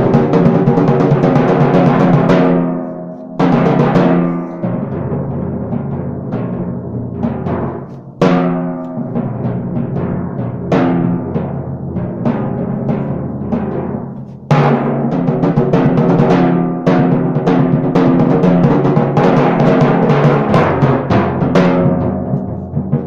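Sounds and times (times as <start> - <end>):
timpani strokes: 0.0 - 23.0.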